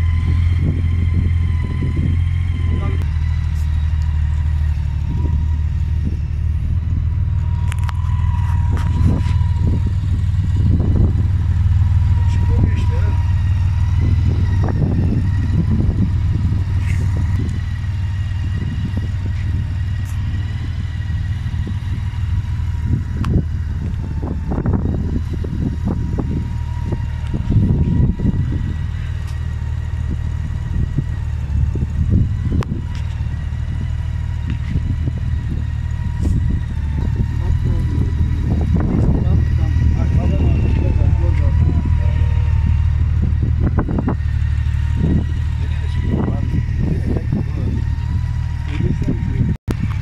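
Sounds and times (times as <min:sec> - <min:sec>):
distant voices: 0:00.0 - 0:50.0
motorcycle engine idling: 0:00.0 - 0:50.0.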